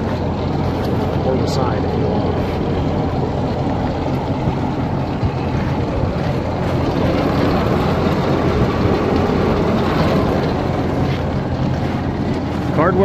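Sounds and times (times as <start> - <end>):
belt conveyor running: 0.0 - 13.0.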